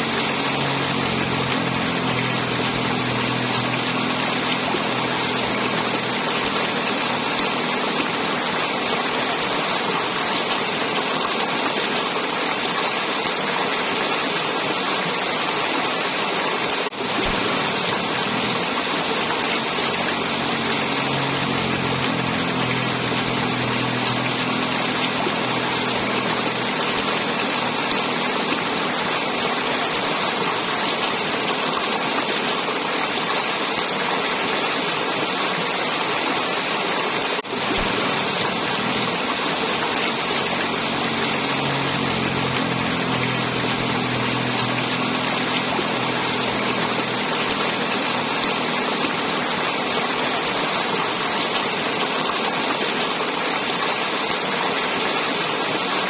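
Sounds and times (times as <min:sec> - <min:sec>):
river water flowing and gurgling: 0:00.0 - 0:56.0.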